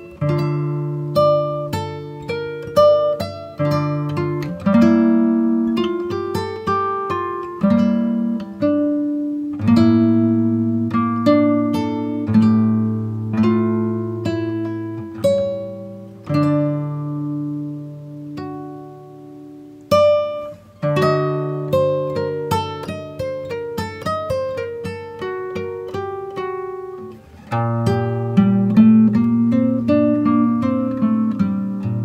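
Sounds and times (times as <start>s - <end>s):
acoustic guitar picking: 0.0s - 32.0s.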